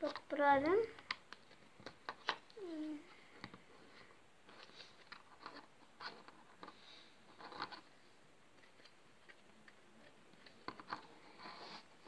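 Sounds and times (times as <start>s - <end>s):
soft scrapes of puzzle pieces: 0.0s - 12.0s.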